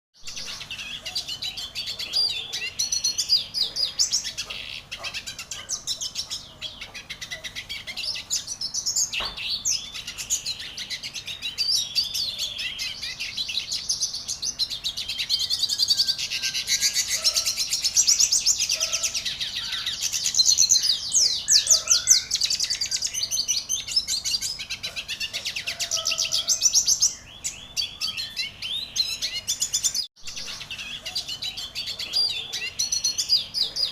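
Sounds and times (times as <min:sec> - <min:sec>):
songbird chirping and trilling: 0:00.2 - 0:33.9.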